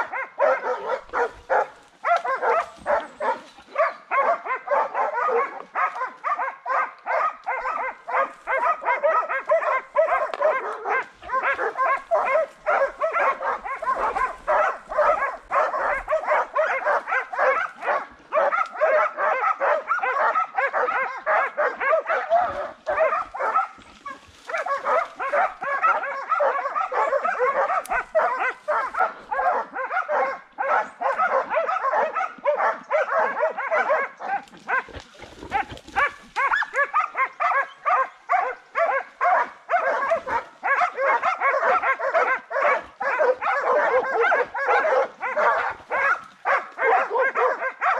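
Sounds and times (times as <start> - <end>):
dogs barking: 0.0 - 47.9.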